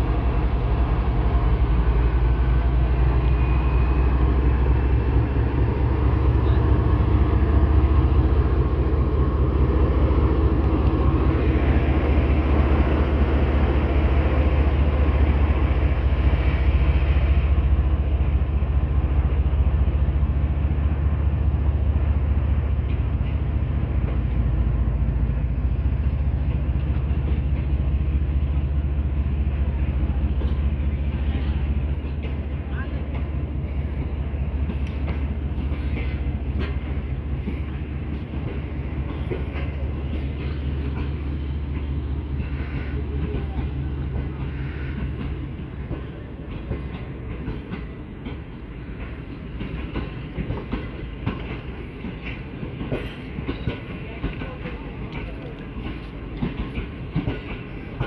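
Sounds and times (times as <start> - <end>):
locomotive engine drone: 0.0 - 58.0
train rumbling: 0.0 - 58.0.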